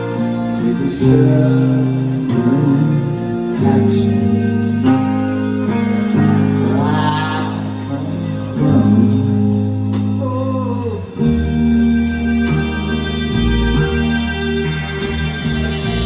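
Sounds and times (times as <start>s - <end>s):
rock band playing a ballad: 0.0s - 16.0s.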